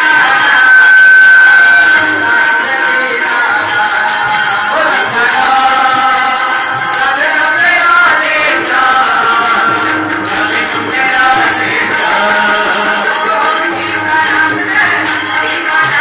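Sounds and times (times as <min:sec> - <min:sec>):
held melodic tones: 0:00.0 - 0:16.0
jingling percussion: 0:00.0 - 0:16.0
hand drum: 0:01.8 - 0:16.0.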